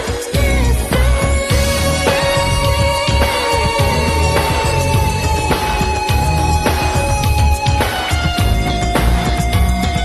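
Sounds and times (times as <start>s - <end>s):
r and b track with deep bass: 0.1s - 9.4s.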